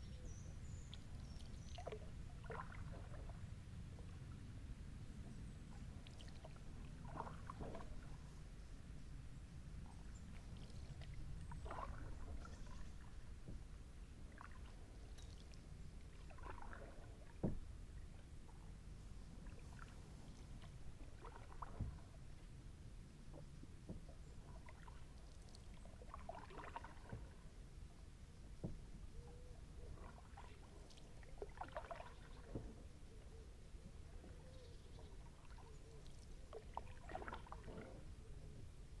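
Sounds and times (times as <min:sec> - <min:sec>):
paddle splashing in water: 0:00.7 - 0:04.1, 0:05.7 - 0:08.5, 0:09.8 - 0:22.6, 0:23.2 - 0:27.6, 0:28.4 - 0:33.1, 0:33.8 - 0:38.2.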